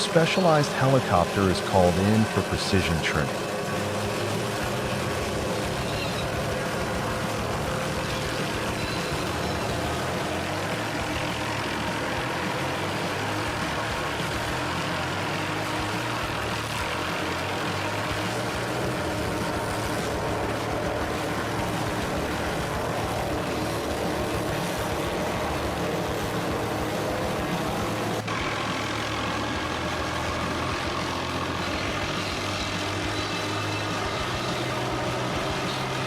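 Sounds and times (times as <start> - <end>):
helicopter engine and rotor drone: 0.0 - 36.0.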